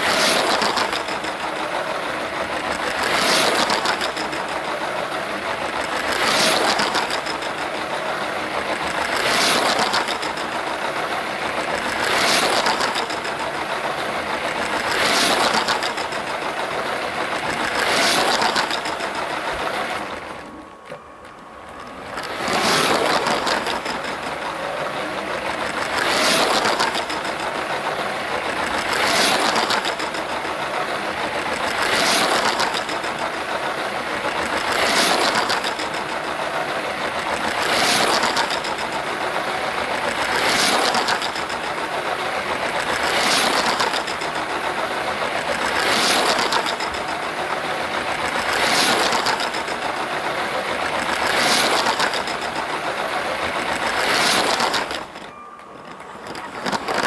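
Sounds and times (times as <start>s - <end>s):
toy train running on track: 0.0s - 57.0s.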